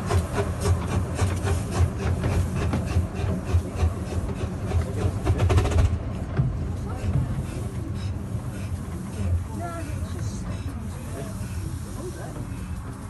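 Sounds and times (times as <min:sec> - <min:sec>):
steam hissing: 0:00.0 - 0:06.0, 0:06.7 - 0:13.0
carriage rumbling on track: 0:00.0 - 0:13.0
steam locomotive chuffing: 0:00.0 - 0:13.0.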